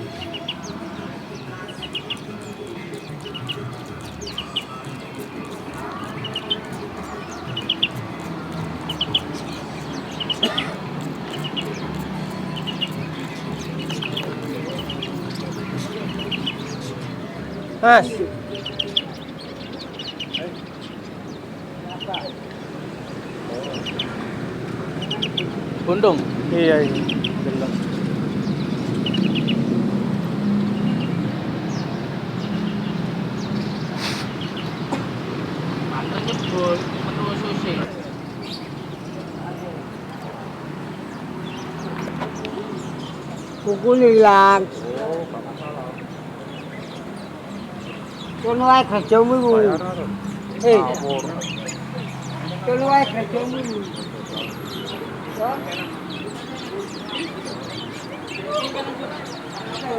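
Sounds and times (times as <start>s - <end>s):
small birds chirping: 0.0s - 59.9s
traffic hum: 0.0s - 59.9s.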